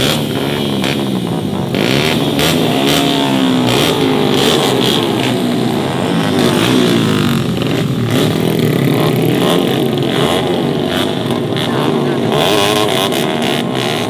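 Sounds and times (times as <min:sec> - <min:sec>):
racing motorcycles at high revs: 0:00.0 - 0:14.0.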